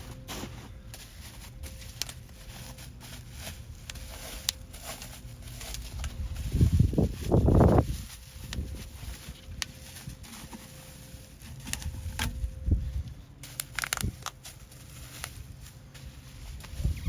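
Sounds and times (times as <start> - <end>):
packaging rustling: 0.2 - 16.8
packaging clicking and crinkling: 1.0 - 15.8.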